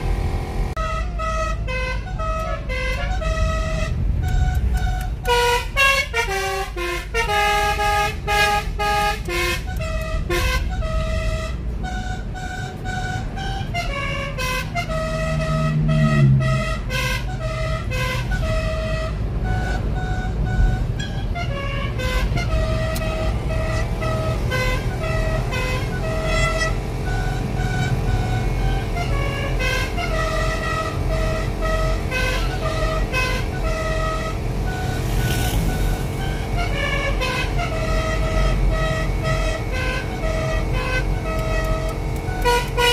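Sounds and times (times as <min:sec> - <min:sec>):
multi-trumpet horn playing tune: 0:00.0 - 0:42.9
road and engine rumble: 0:00.0 - 0:42.9.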